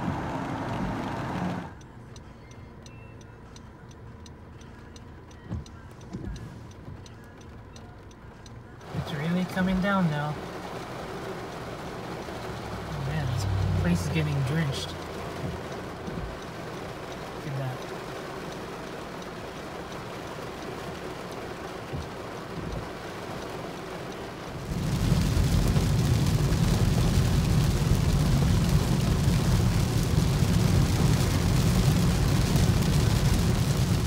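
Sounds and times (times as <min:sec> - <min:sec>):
heavy rain on moving car: 0:00.0 - 0:01.8, 0:05.0 - 0:34.0.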